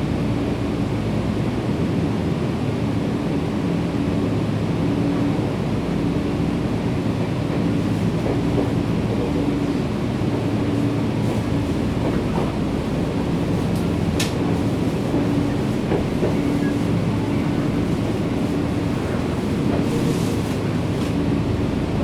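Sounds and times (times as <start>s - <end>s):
train wheel-on-rail rumble: 0.0s - 22.0s.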